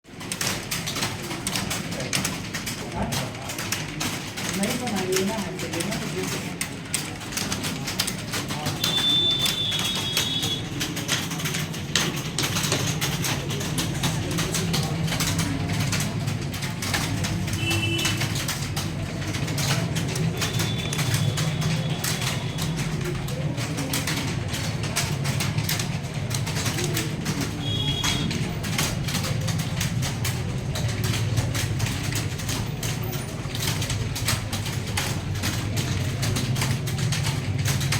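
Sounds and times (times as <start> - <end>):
keyboard typing: 0.1 - 37.9.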